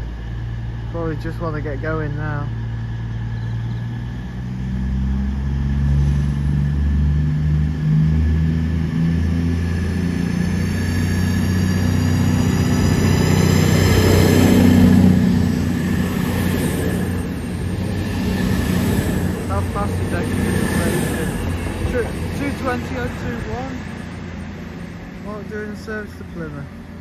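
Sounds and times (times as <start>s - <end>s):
diesel train engines revving: 0.0s - 27.0s
rising whine: 0.0s - 27.0s.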